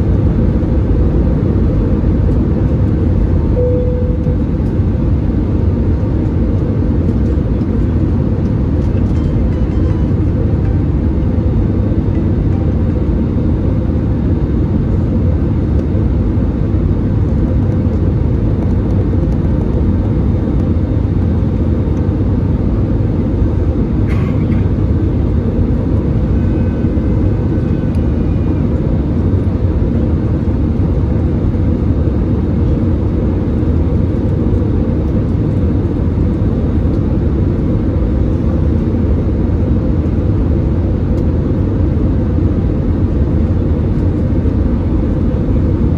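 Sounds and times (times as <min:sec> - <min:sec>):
airplane cabin drone: 0:00.0 - 0:45.9.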